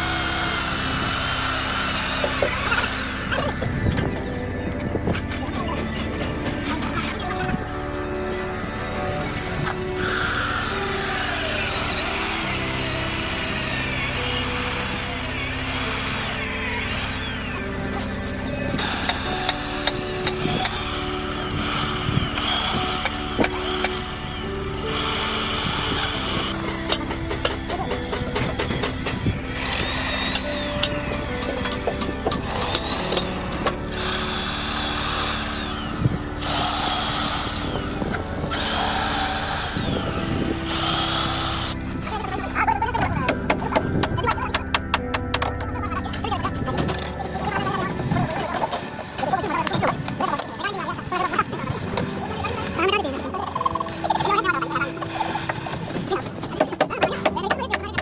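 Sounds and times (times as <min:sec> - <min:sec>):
background music with low notes: 0:00.0 - 0:58.0
power tool whining: 0:00.0 - 0:58.0.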